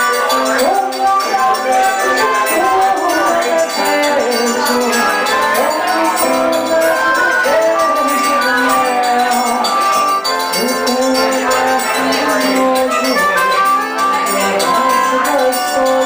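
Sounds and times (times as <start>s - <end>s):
accordion melody: 0.0s - 16.0s
guitar: 0.0s - 16.0s
hand percussion: 0.0s - 16.0s.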